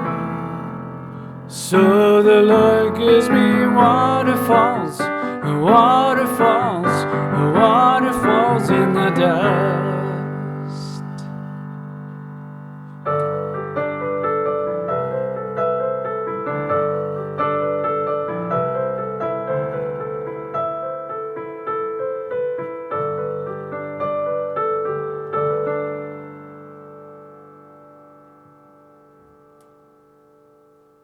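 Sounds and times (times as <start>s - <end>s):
solo piano: 0.0s - 31.0s.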